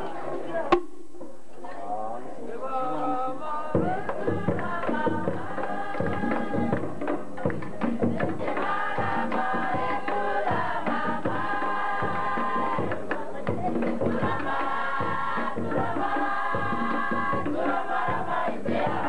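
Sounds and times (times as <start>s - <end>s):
group of voices singing: 1.7s - 19.0s.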